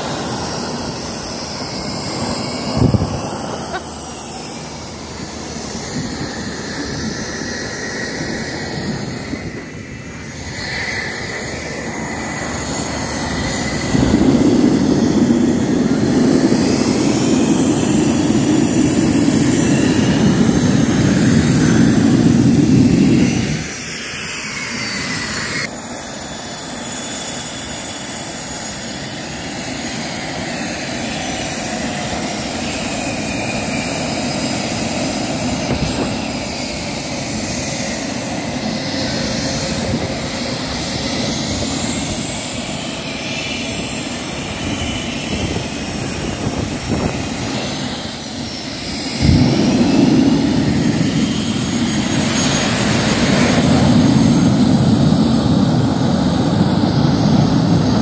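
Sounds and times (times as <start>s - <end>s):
jet turbine roar: 0.0s - 58.0s
model jet turbine whine: 0.0s - 58.0s.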